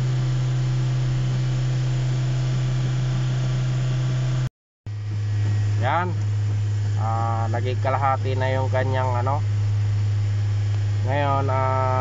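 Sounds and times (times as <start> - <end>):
car engine running at raised speed: 0.0 - 12.0.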